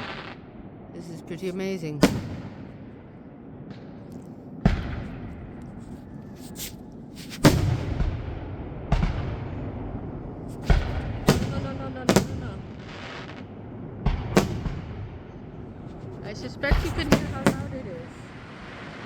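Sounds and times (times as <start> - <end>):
fireworks crackling: 0.0 - 3.0, 3.7 - 9.2, 10.2 - 19.0
fireworks booming: 0.0 - 19.0.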